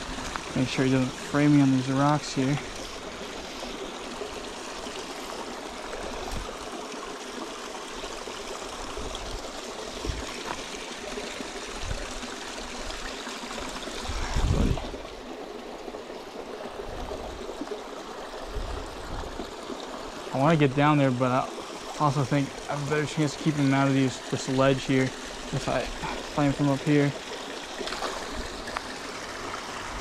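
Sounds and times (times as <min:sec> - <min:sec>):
water trickling into a pool: 0:00.0 - 0:30.0.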